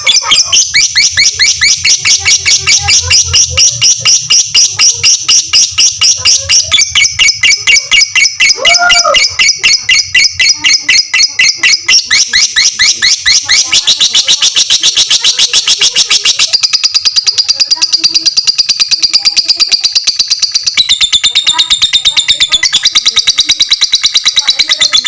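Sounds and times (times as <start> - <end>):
lovebird shrill chirps: 0.0 - 25.0.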